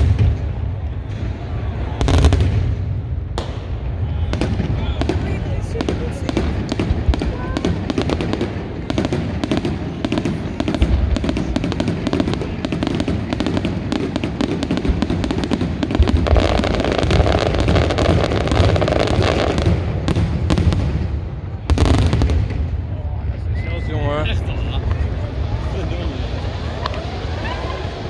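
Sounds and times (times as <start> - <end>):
fireworks cracks and bangs: 0.0 - 23.6, 24.2 - 28.0.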